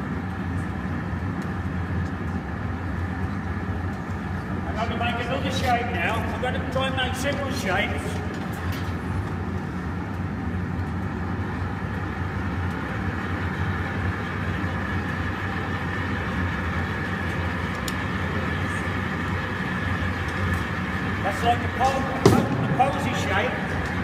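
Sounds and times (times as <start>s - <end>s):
furnace burners rushing: 0.0s - 24.0s.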